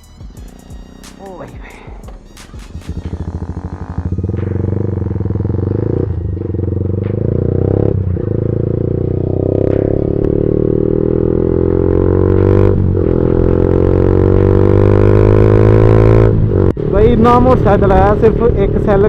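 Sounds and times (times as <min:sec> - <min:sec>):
single-cylinder motorcycle engine: 0:02.7 - 0:19.0.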